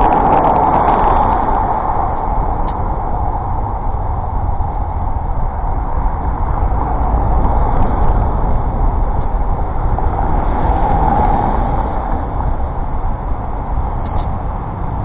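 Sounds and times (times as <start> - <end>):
city road traffic: 0.0 - 15.0
low wind rumble: 0.0 - 15.0.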